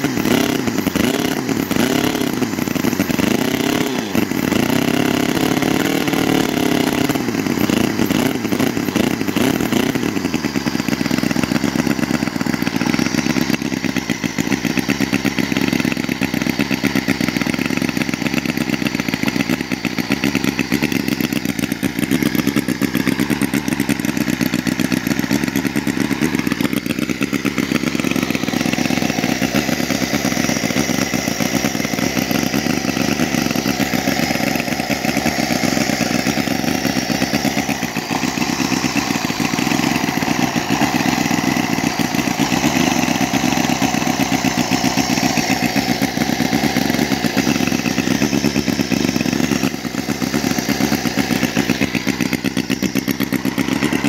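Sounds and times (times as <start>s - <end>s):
model engine running: 0.0s - 54.0s.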